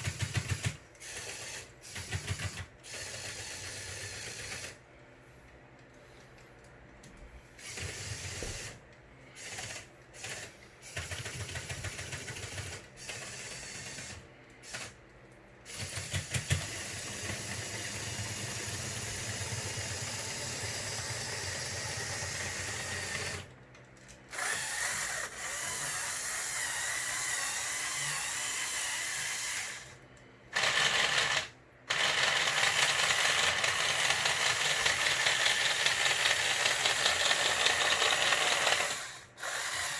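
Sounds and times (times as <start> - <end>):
toy electric motors whirring: 0.0 - 4.8, 7.5 - 15.0, 15.6 - 39.9.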